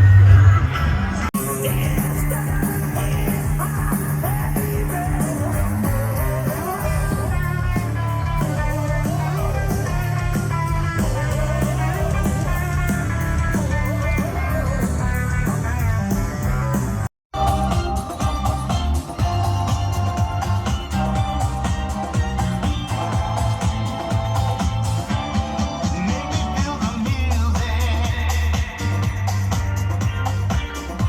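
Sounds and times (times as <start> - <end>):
person singing: 0.0 - 16.8, 17.4 - 31.0
bass line: 0.0 - 31.0
rock guitar: 0.0 - 31.0.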